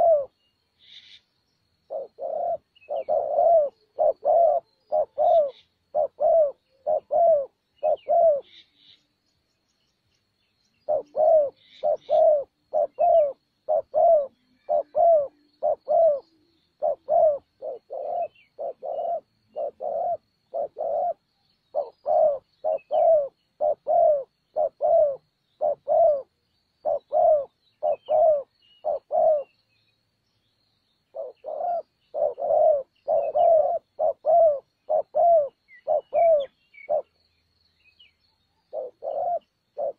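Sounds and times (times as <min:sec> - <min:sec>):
dove cooing: 0:00.0 - 0:01.2, 0:01.9 - 0:09.0, 0:10.8 - 0:29.6, 0:31.1 - 0:37.2, 0:38.5 - 0:39.9
small birds chirping: 0:00.0 - 0:39.9.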